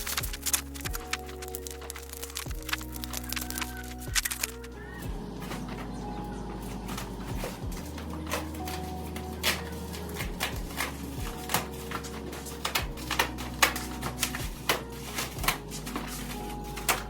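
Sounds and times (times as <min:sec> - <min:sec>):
background music with bass: 0:00.0 - 0:17.0
packaging clicks and rustles: 0:00.0 - 0:17.0.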